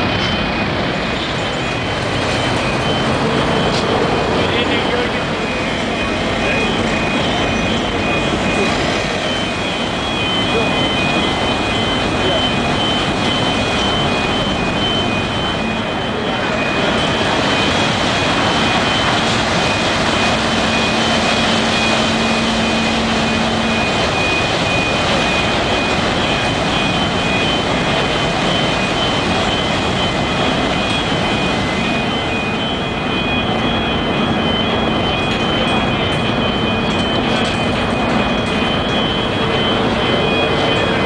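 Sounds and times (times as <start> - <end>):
high whine: 0.0 - 41.0
ship engines and propellers: 0.0 - 41.0.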